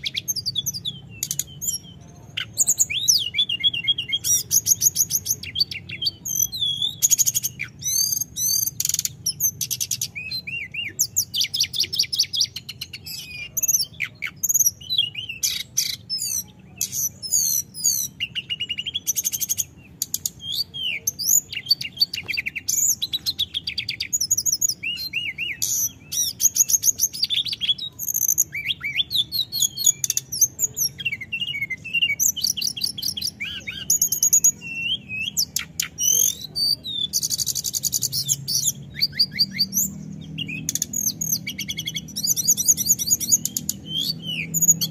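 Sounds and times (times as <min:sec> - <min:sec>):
bird singing whistles and trills: 0:00.0 - 0:44.9.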